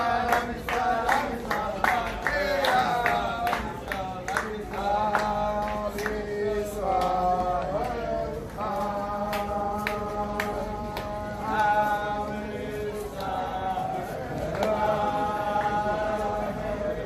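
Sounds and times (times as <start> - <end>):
sharp handclaps: 0.0 - 12.2, 14.3 - 16.2
men singing together: 0.0 - 17.0.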